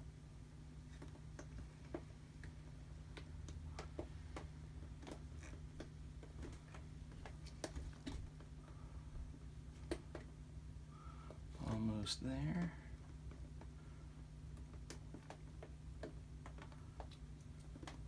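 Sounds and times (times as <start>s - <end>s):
steady low hum: 0.0s - 18.0s
painted canvas ticking and clicking: 0.8s - 10.4s, 12.6s - 18.0s.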